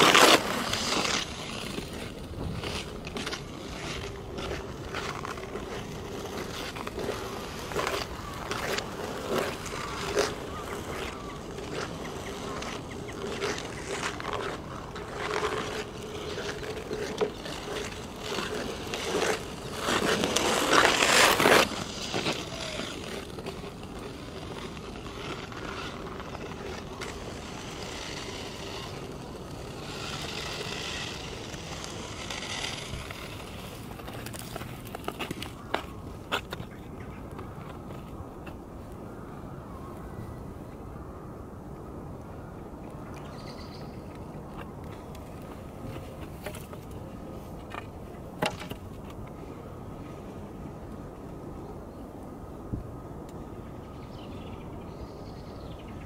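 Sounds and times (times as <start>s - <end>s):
ice skates scraping on ice: 0.0s - 39.0s, 43.2s - 50.5s.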